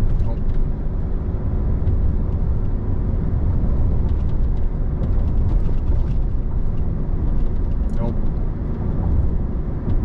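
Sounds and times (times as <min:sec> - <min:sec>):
engine and road drone: 0:00.0 - 0:10.0.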